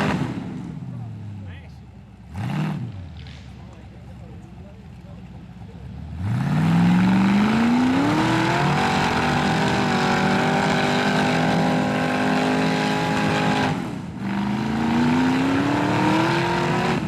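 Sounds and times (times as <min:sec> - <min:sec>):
buggy engine revving: 0:00.0 - 0:17.0.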